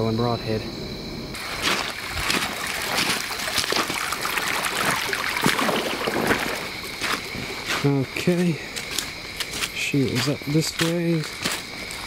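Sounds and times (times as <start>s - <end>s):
footsteps crunching leaves and gravel: 1.4s - 12.0s.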